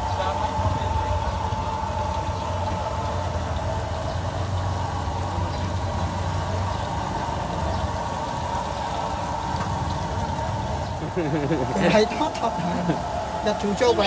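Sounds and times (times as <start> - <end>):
food frying in hot oil: 0.0 - 14.0
low hum: 0.0 - 14.0.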